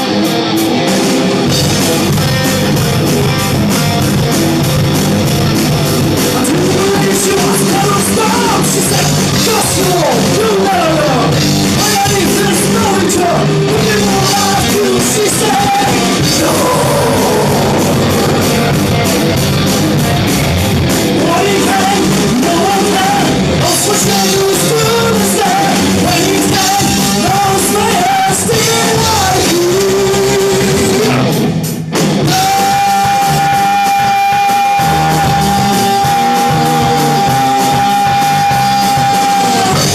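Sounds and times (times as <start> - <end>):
distorted guitar: 0.0 - 39.9
drums: 0.0 - 39.9
hard rock song with singing: 0.0 - 39.9.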